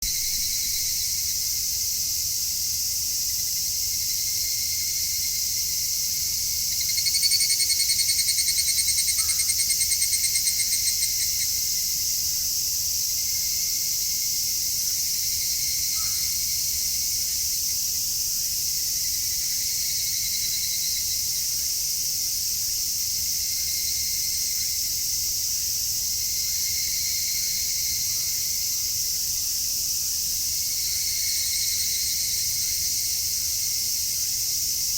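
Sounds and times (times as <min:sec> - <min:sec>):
cicada pulsed trilling call: 0:00.0 - 0:34.9
high-pitched insect chorus: 0:00.0 - 0:34.9.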